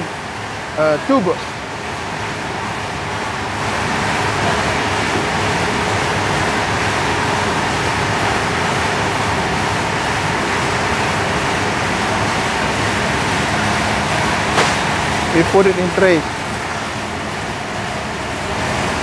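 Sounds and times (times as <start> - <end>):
machine and conveyor drone: 0.0 - 19.0.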